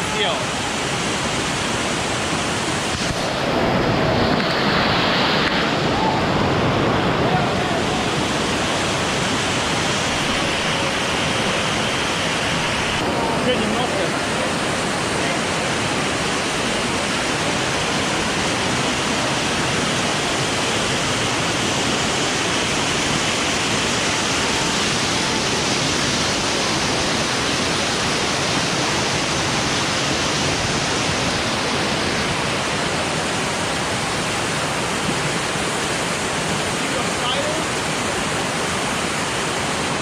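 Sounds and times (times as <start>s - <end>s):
waterfall rushing and splashing: 0.0s - 40.0s.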